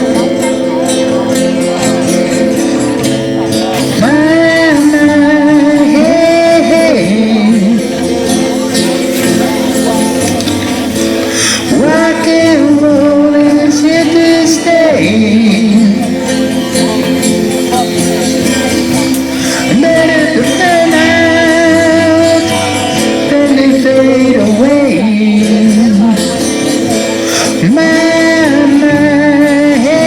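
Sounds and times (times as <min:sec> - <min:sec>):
bass guitar: 0:00.0 - 0:30.0
electric guitars: 0:00.0 - 0:30.0.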